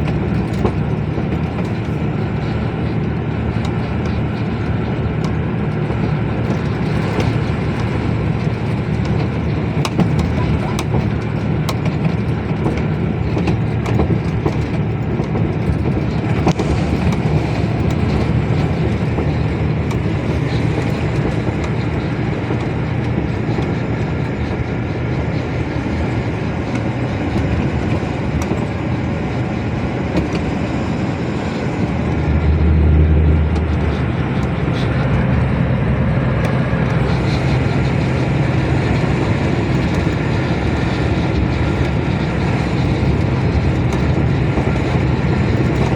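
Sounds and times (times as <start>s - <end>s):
truck engine and road noise: 0.0s - 45.9s.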